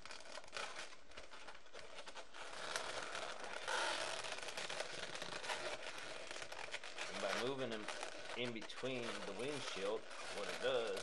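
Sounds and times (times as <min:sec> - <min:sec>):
balloons rubbing together: 0:00.0 - 0:11.0.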